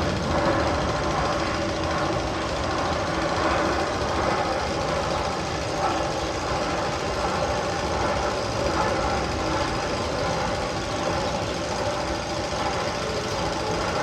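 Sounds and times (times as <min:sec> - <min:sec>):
mechanical engine-like knocking: 0:00.0 - 0:14.0.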